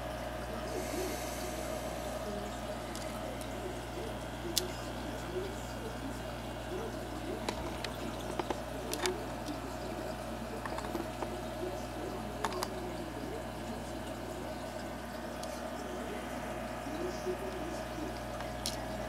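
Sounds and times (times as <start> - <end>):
constant low hum: 0.0 - 19.0
bubbling water from air stone: 0.6 - 19.0.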